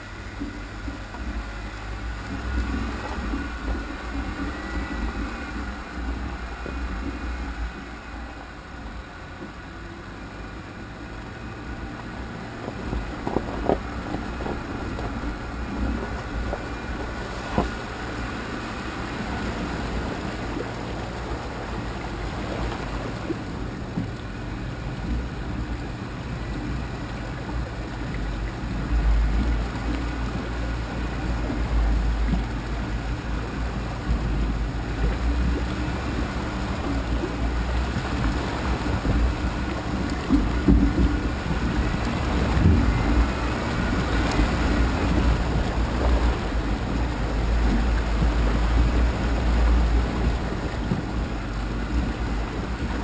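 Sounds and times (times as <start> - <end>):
off-road vehicle engine: 0.0 - 53.0
tires on rough gravel: 0.0 - 53.0
water sloshing: 0.0 - 53.0
wind on microphone: 0.0 - 53.0.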